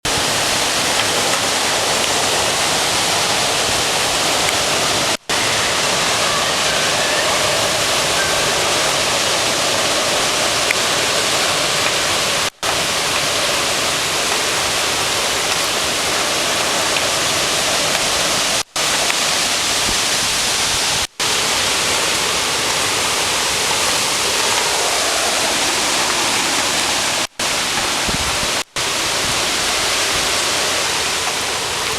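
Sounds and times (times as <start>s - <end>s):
strong wind blowing: 0.0s - 18.6s, 19.3s - 31.9s.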